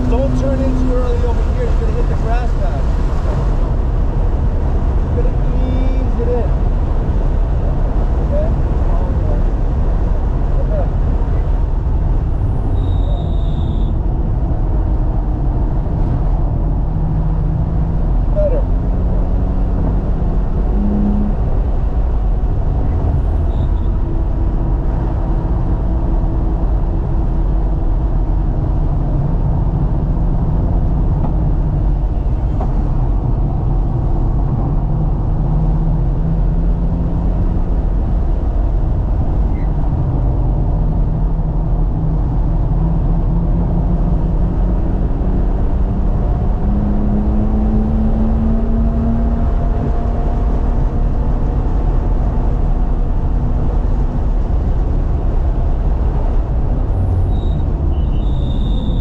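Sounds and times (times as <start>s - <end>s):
road and tyre rumble: 0.0s - 59.0s.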